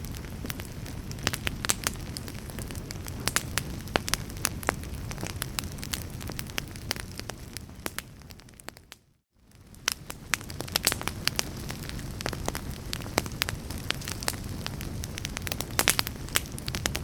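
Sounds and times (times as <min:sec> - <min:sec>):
burning logs crackling: 0:00.0 - 0:17.0.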